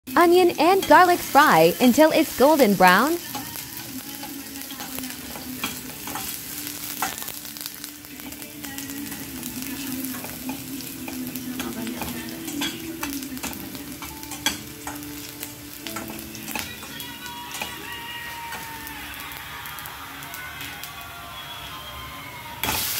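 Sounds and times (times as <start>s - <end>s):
onion sizzling in oil: 0.1s - 22.9s.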